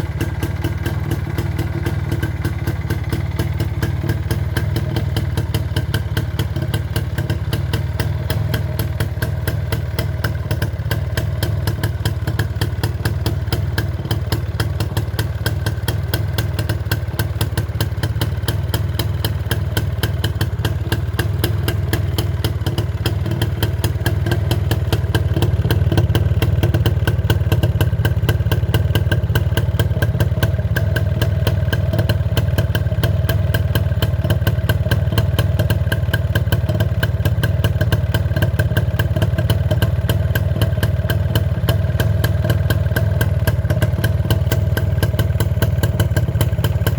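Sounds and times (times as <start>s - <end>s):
two-stroke motorcycle engine idling: 0.0s - 46.9s.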